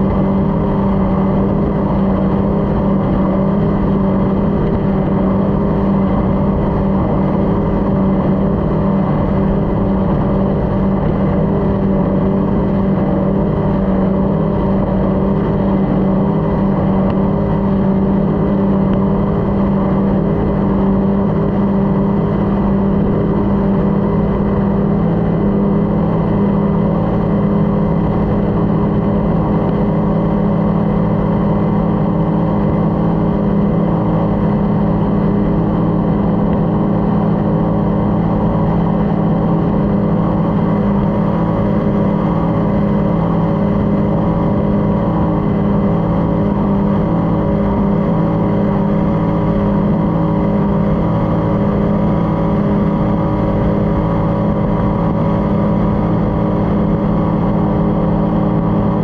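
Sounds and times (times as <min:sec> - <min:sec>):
powerboat engine at high revs: 0:00.0 - 0:59.0
rush of wind and water: 0:00.0 - 0:59.0.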